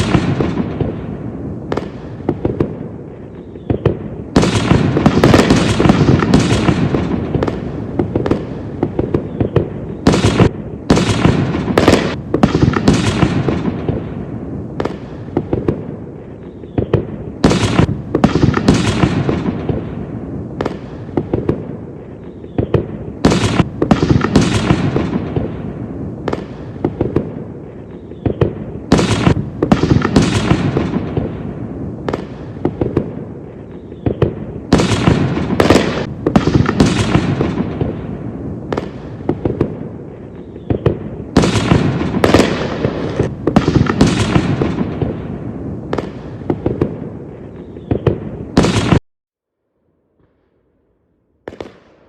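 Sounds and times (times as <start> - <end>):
fireworks bangs and crackle: 0.0 - 49.0, 50.1 - 52.0
rumble of distant explosions: 0.0 - 49.0.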